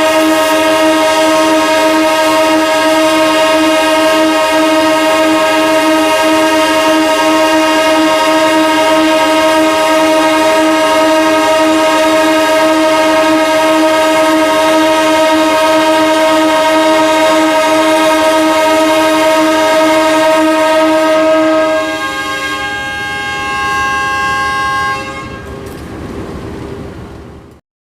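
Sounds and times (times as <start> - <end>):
locomotive air horn blast: 0.0 - 25.8.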